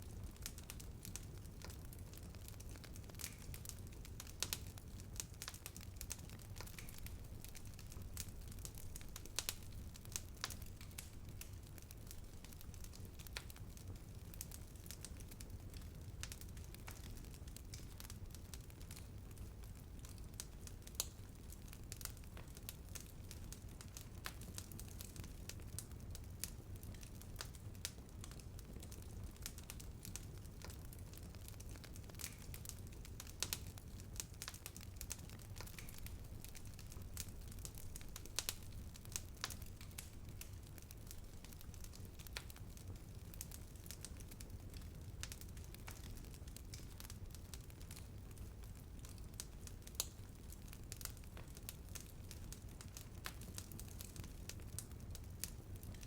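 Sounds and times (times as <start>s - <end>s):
low rumble of flames: 0.0s - 56.0s
wood crackling and popping: 0.0s - 56.0s.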